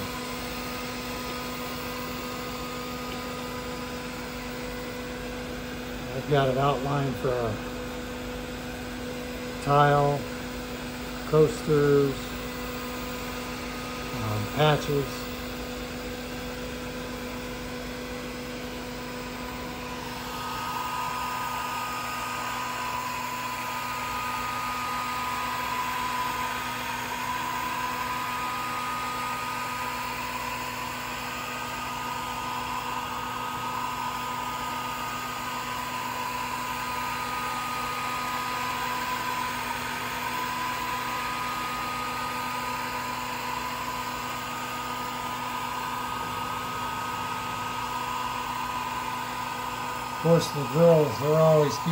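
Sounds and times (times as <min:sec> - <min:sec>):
air pump running: 0:00.0 - 0:51.9
machine hum: 0:00.0 - 0:51.9
stepper motor whine: 0:00.0 - 0:51.9.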